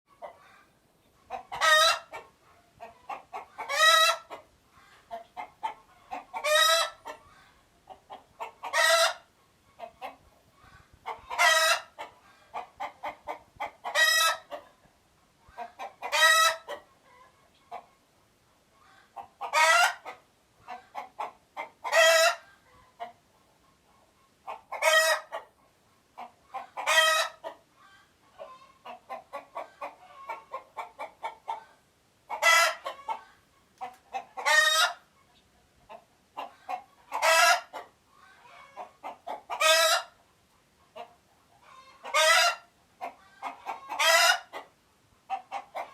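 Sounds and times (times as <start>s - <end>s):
chicken alarm calling: 0.1s - 14.7s, 15.5s - 17.9s, 18.8s - 25.6s, 26.2s - 40.2s, 41.0s - 44.7s, 45.3s - 45.9s.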